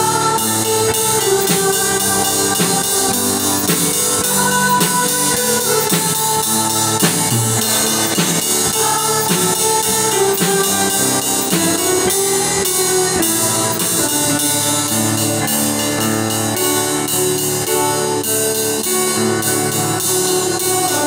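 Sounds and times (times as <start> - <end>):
drum kit and cymbals: 0.0 - 21.0
held pitched instrument tones: 0.0 - 21.0.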